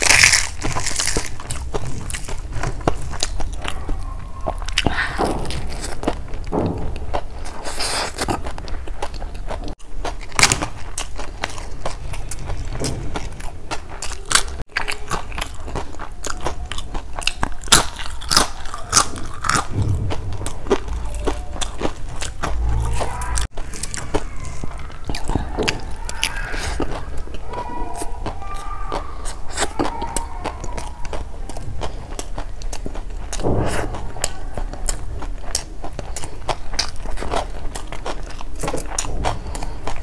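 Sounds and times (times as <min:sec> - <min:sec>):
wet chewing mouth sounds: 0:00.0 - 0:40.0.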